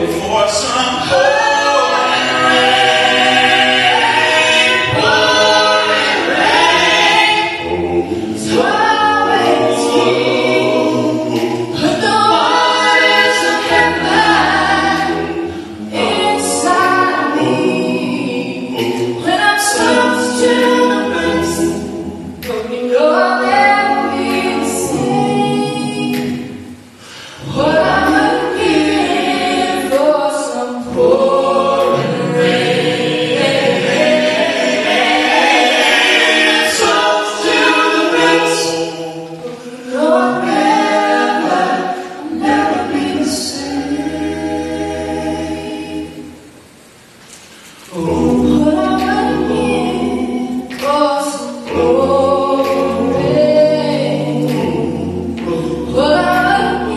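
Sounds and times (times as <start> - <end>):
vocal quartet singing a cappella: 0.0 - 56.9.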